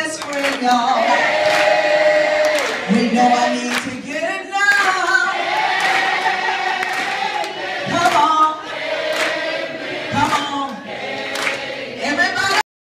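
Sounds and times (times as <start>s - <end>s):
people clapping: 0.0s - 12.6s
people singing together: 0.2s - 12.6s.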